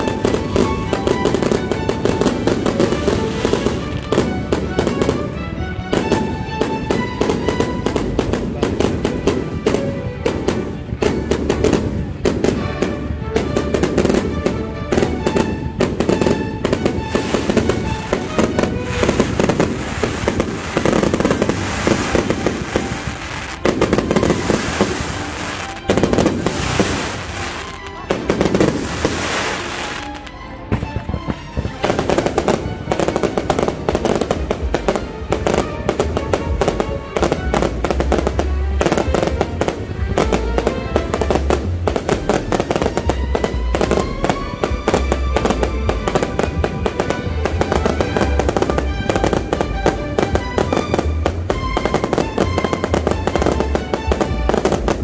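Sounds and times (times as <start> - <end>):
fireworks bursting and crackling: 0.0 - 55.0
music playing: 0.0 - 55.0.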